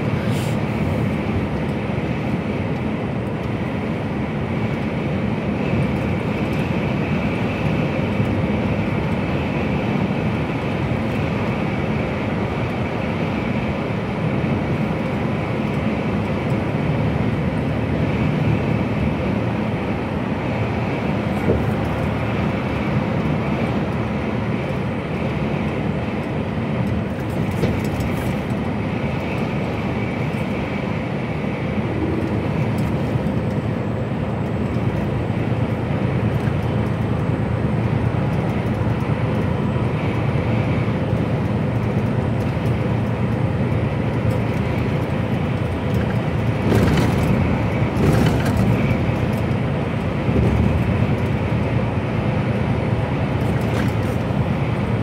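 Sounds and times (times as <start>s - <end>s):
lorry engine and tyres droning: 0.0s - 55.0s.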